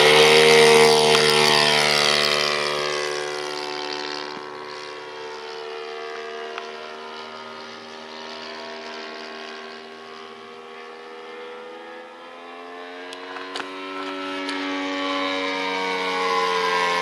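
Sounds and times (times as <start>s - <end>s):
model plane engine drone: 0.0s - 17.0s.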